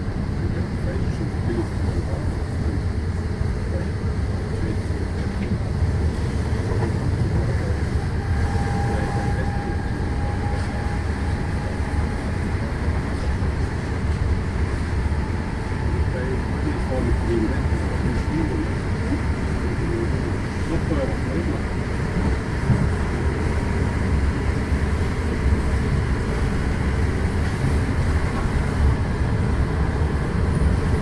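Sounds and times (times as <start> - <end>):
train rumbling along track: 0.0 - 31.0.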